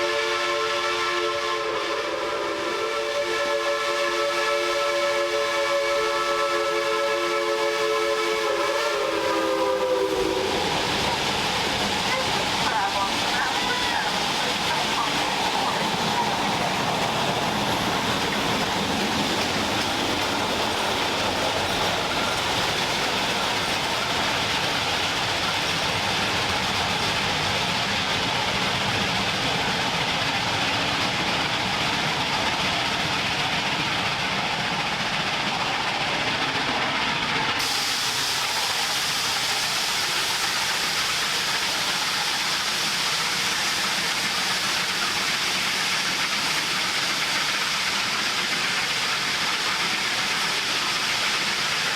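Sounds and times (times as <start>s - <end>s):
steam hiss: 0.0s - 51.9s
steam locomotive working: 0.0s - 51.9s.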